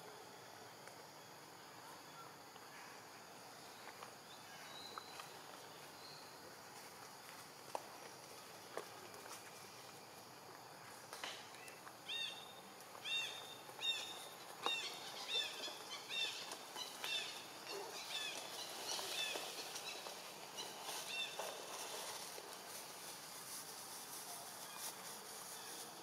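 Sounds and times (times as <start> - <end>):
faint forest background: 0.0 - 26.0.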